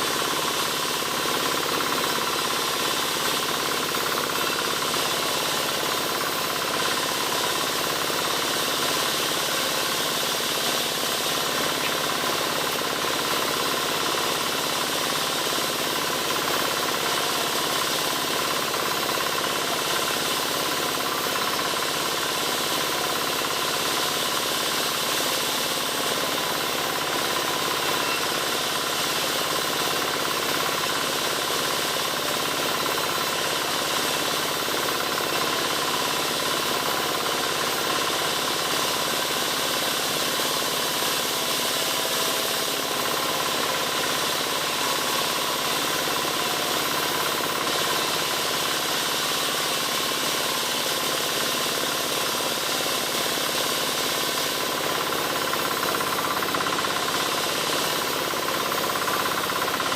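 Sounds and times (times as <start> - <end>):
wood-sawing machine running: 0.0 - 59.9.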